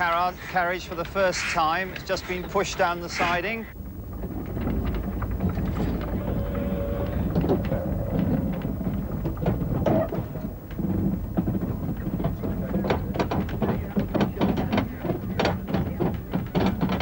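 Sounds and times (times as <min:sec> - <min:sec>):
carriage wheels rumbling on rails: 0:00.0 - 0:17.0.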